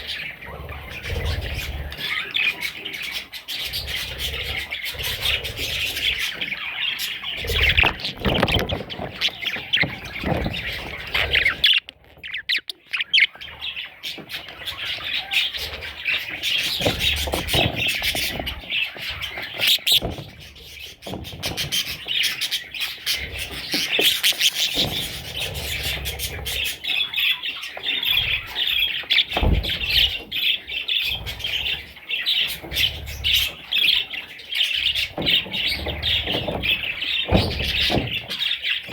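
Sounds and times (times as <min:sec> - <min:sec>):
budgerigar chicks squawking: 0:00.0 - 0:38.9.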